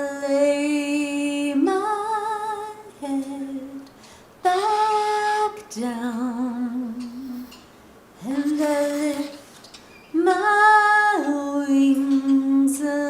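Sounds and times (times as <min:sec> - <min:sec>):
woman singing unaccompanied: 0:00.0 - 0:07.6, 0:08.2 - 0:13.0.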